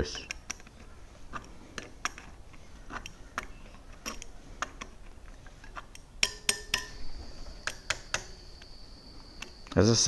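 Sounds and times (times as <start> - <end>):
metal tool tapping wheel spokes: 0.0 - 10.0.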